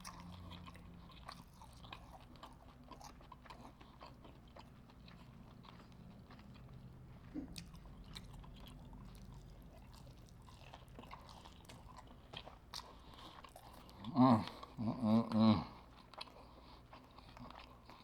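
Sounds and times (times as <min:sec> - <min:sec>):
chewing and biting food: 0:00.0 - 0:18.0.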